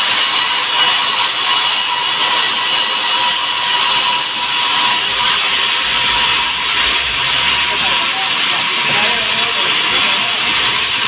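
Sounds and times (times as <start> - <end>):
band saw hissing and whining: 0.0 - 11.0.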